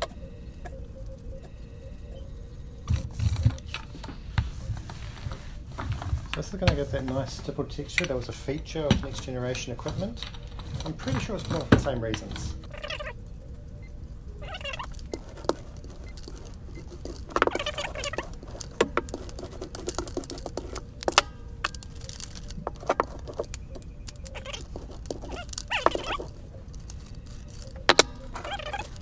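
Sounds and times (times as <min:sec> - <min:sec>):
paint roller crackling: 0:02.8 - 0:29.0.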